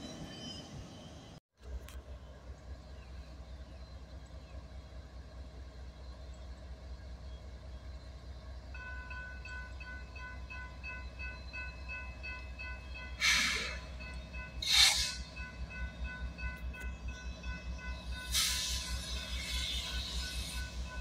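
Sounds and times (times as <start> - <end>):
diesel locomotive engine rumble: 0.0 - 21.0.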